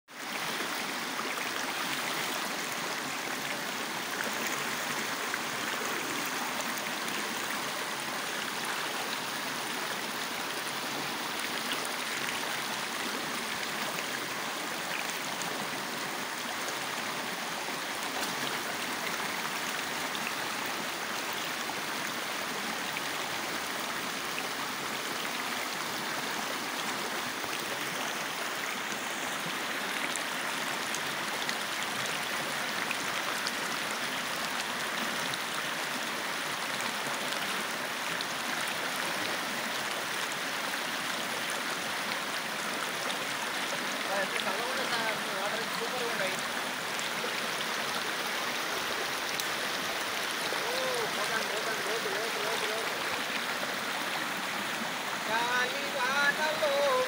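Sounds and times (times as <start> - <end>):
stream rushing over rocks: 0.1 - 57.0.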